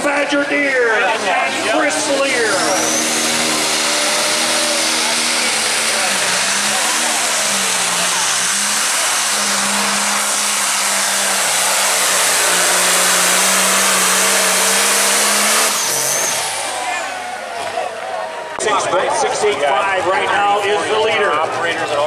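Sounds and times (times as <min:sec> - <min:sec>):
diesel engine running hard: 0:00.0 - 0:22.0.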